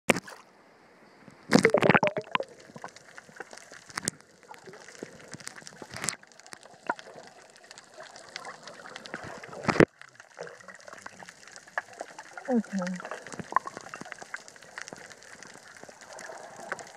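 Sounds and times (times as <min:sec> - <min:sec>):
muffled underwater clicks and crackles: 0:01.2 - 0:16.9
water splashing: 0:01.5 - 0:16.9.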